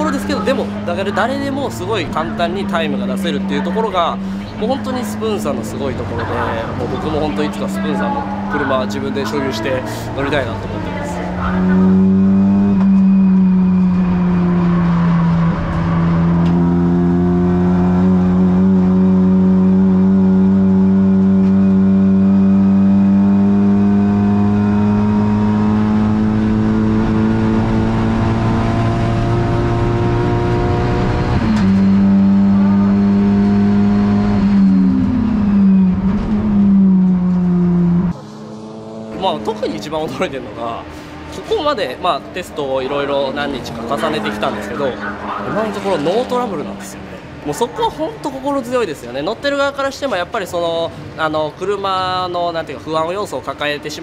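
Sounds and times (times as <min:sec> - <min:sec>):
race car engine at high revs: 0:00.0 - 0:51.8.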